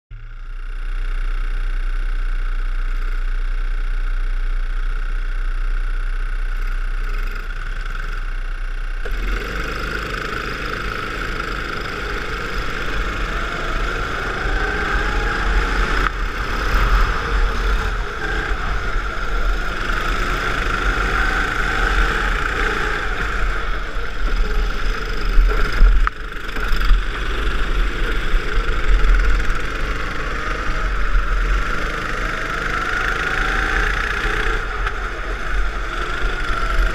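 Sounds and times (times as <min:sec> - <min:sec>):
go-kart engines running: 0:00.2 - 0:36.9.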